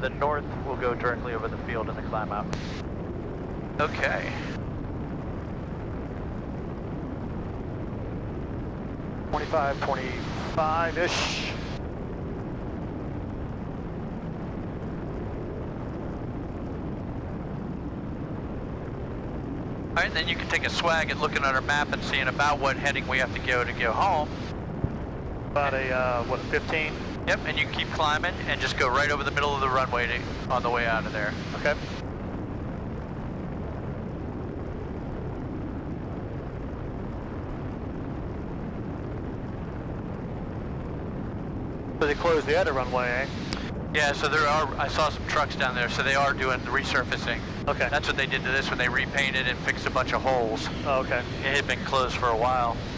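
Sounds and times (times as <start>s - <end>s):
airplane engine and propeller droning: 0.0s - 52.9s.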